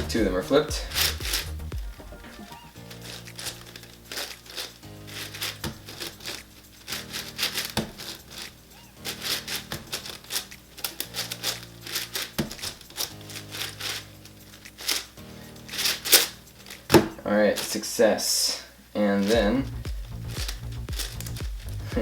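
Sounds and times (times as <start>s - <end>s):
background music with low chords: 0.0s - 18.3s, 18.9s - 22.0s.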